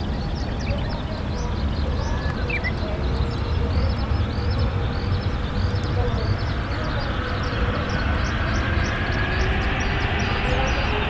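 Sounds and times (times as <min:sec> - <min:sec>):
birds chirping: 0:00.0 - 0:11.0
jet engines rumbling: 0:00.0 - 0:11.0.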